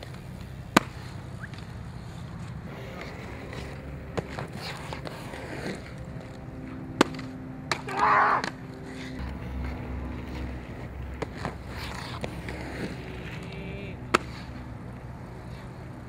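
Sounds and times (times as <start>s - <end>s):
inline skate wheels rolling on asphalt: 0.0s - 16.0s.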